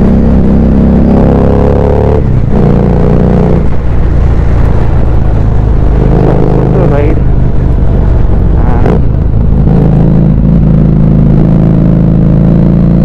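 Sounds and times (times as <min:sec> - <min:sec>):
motorcycle engine running loud: 0:00.0 - 0:13.0.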